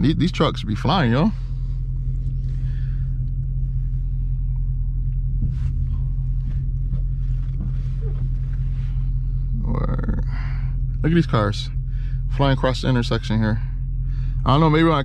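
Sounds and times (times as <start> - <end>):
car engine running in cabin: 0.0 - 15.0.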